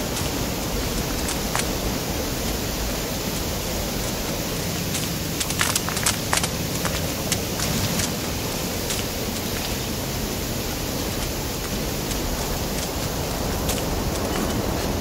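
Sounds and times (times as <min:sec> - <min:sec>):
footsteps on ice and snow: 0:00.0 - 0:15.0
steady rushing noise: 0:00.0 - 0:15.0.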